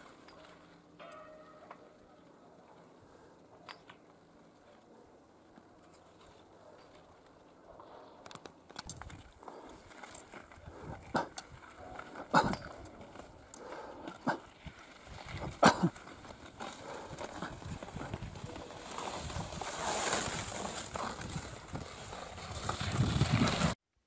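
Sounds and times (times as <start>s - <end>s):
skis sliding over snow: 0.0s - 1.0s, 5.4s - 23.8s
ski poles clacking: 0.0s - 2.9s, 5.5s - 23.7s.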